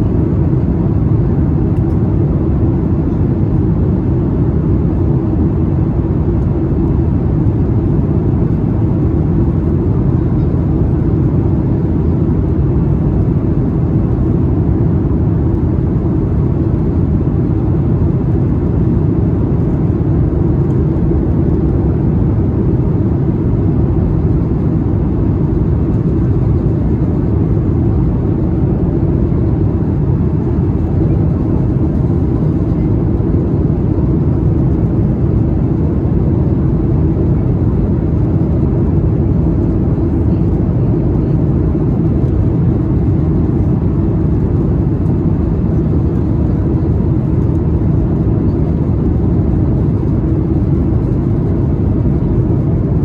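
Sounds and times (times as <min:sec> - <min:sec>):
airplane cabin rumble: 0:00.0 - 0:53.0.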